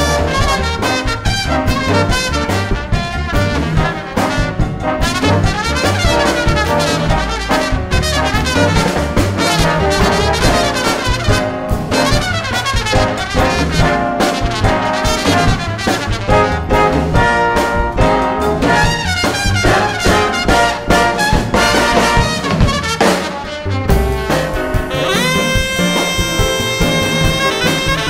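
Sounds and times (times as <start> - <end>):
drums: 0.0 - 28.0
trombones and trumpets: 0.0 - 28.0.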